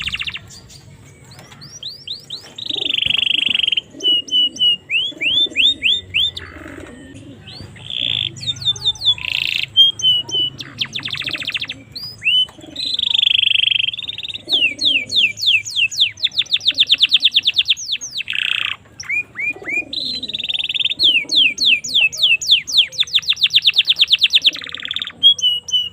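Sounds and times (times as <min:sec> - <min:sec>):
canary singing: 0:00.0 - 0:25.9.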